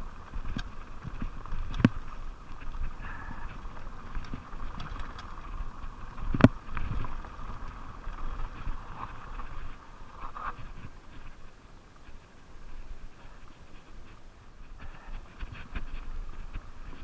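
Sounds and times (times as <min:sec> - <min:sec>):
bike rattling: 0:00.0 - 0:17.0
tyres rolling over dirt and gravel: 0:00.0 - 0:17.0.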